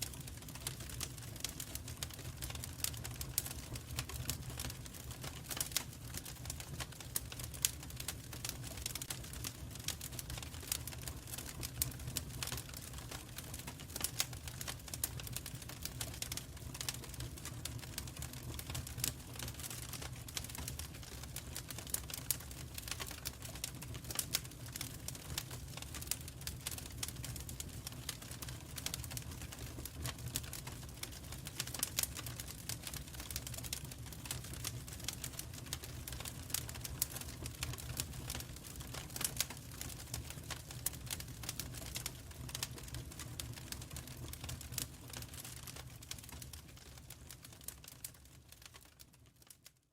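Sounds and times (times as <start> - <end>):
fire crackling in fireplace: 0.0 - 49.9.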